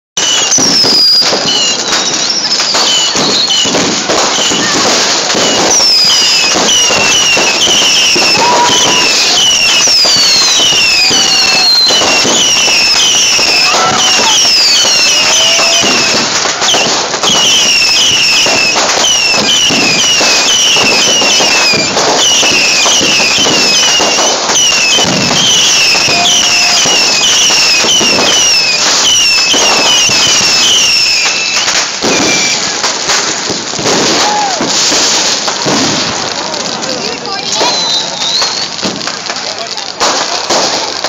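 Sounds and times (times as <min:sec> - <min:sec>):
falling firework whistles: 0:00.2 - 0:41.0
fireworks cracking and popping: 0:00.2 - 0:41.0.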